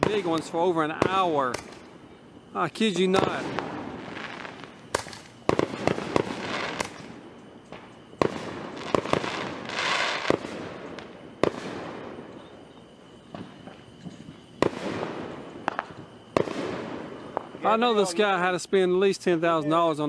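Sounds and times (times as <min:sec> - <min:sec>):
fireworks bursting: 0:00.0 - 0:19.3
fireworks crackling: 0:00.0 - 0:20.0
hissing crackle: 0:00.0 - 0:20.0.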